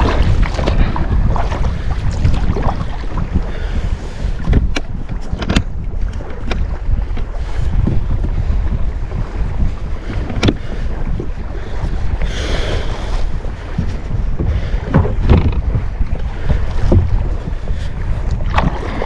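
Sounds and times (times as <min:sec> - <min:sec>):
water splashes: 0:00.0 - 0:19.0
wind buffeting microphone: 0:00.0 - 0:19.0.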